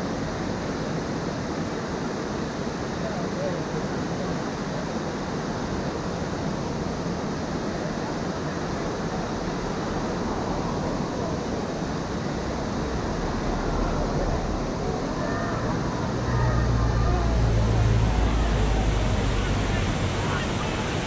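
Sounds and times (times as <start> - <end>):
water rushing over a weir: 0.0 - 21.0.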